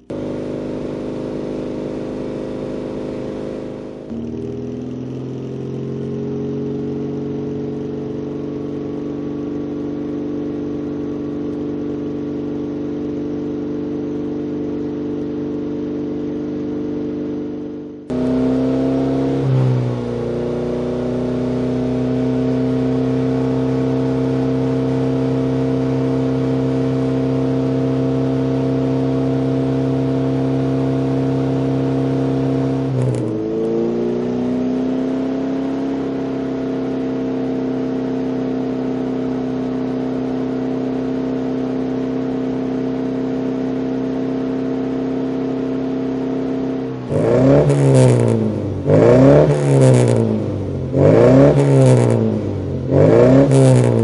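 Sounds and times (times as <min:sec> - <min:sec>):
car engine exhaust revving: 0:00.0 - 0:54.0.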